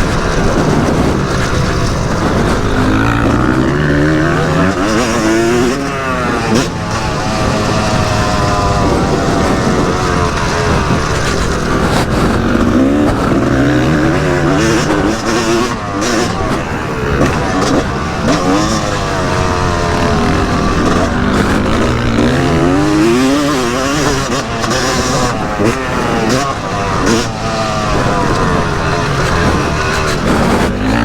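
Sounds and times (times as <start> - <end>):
two-stroke motocross engine revving: 0.0 - 31.0.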